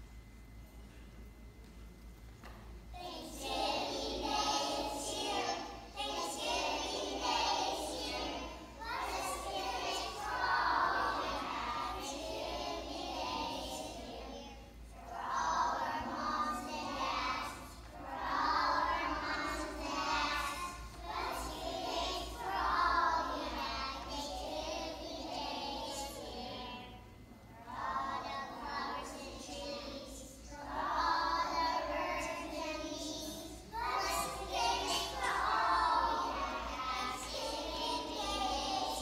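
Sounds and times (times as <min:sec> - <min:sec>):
children's choir singing: 0:03.0 - 0:39.0.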